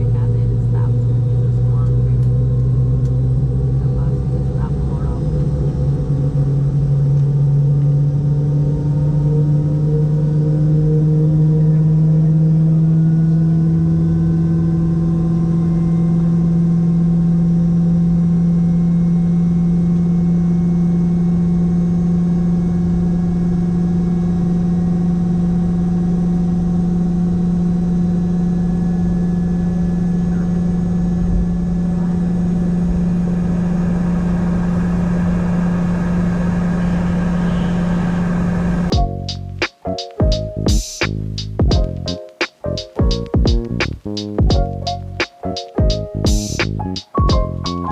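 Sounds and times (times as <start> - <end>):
jet engine cabin drone: 0.0 - 41.1.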